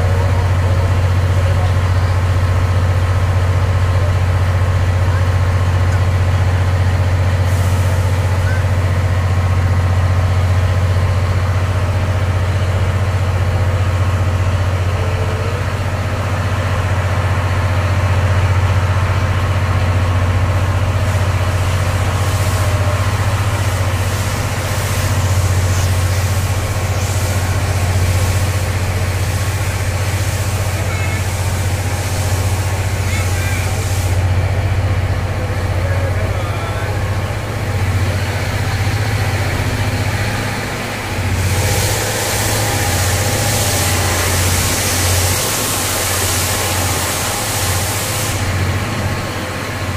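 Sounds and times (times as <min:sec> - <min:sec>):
train interior hum: 0:00.0 - 0:49.9
train rumble: 0:00.0 - 0:49.9.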